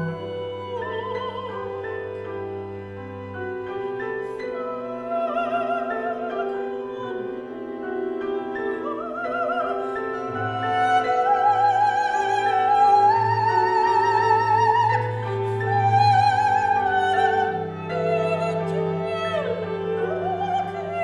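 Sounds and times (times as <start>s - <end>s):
soprano singing with vibrato: 0.0s - 2.2s, 4.2s - 21.0s.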